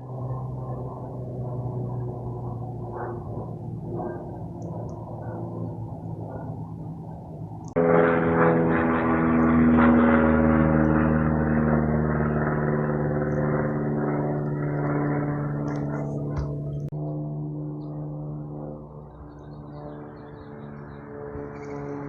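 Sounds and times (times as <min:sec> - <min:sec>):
small aircraft engine drone: 0:00.0 - 0:22.0.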